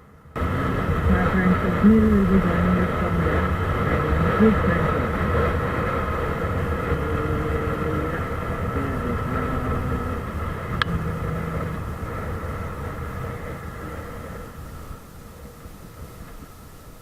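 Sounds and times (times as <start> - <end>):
road noise: 0.0 - 17.0
motorcycle engine running: 0.4 - 16.1.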